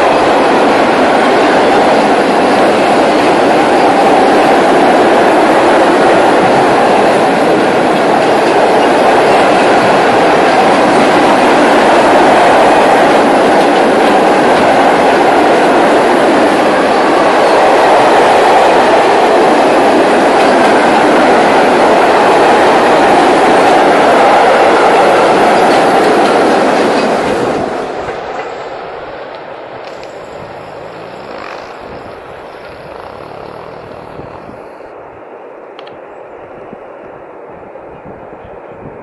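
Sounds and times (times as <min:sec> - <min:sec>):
freight train wheels on rails: 0:00.0 - 0:39.0.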